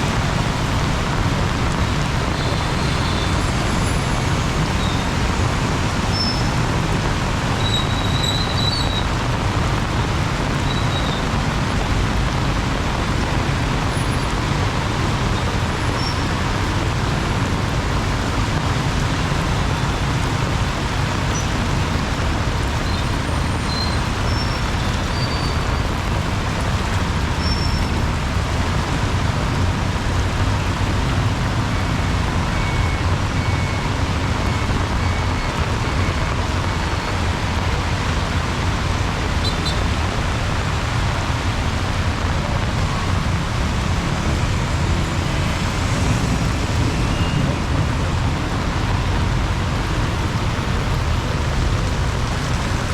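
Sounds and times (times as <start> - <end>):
heavy rain falling: 0.0 - 52.9
road traffic rumble: 0.0 - 52.9.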